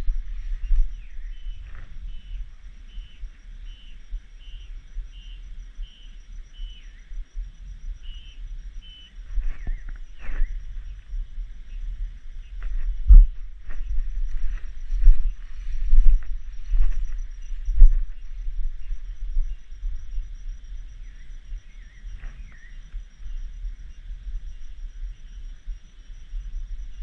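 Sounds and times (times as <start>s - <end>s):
low rumble: 0.0s - 3.4s, 7.2s - 27.0s
cicadas droning: 0.0s - 27.0s.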